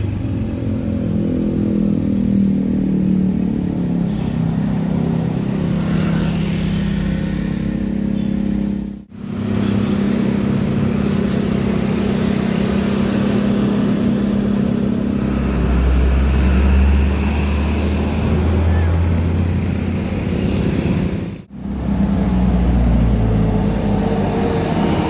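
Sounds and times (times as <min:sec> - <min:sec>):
deep loud engine drone: 0:00.0 - 0:25.0
diesel truck engine drone: 0:00.0 - 0:25.0.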